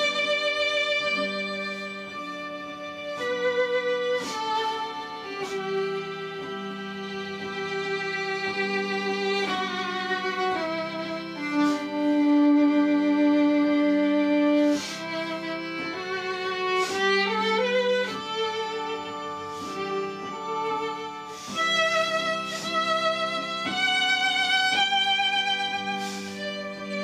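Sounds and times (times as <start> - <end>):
slow violin melody: 0.0 - 27.0
sustained accompaniment: 0.0 - 27.0.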